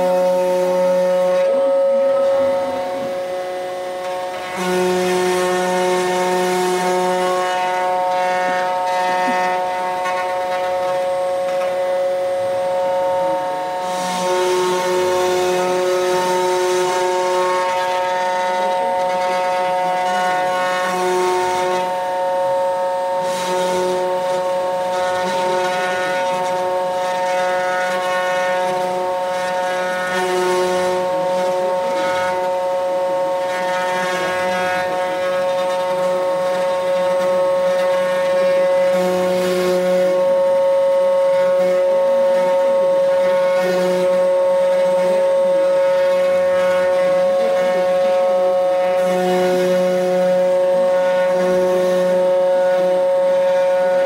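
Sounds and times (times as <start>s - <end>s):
bit cutting wood: 0.0s - 54.0s
low motor tones: 0.0s - 54.0s
router spindle whine: 0.0s - 54.0s.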